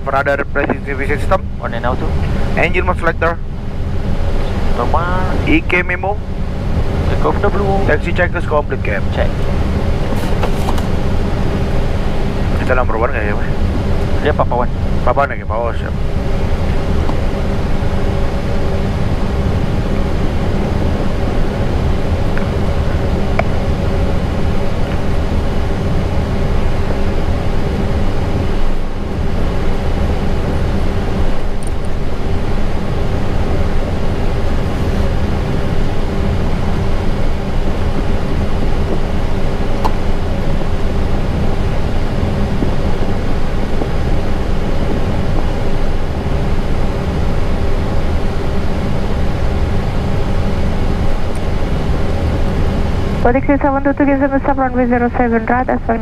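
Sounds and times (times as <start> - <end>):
faint steady hum: 0.0 - 56.0
jet engines idling low rumble: 0.0 - 56.0.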